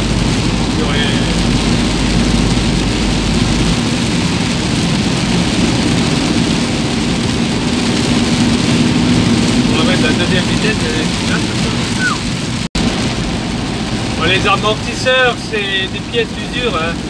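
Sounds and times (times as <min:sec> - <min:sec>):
engine hum: 0:00.0 - 0:17.0
heavy rain on windscreen: 0:00.0 - 0:17.0
tyres on wet road: 0:00.0 - 0:17.0.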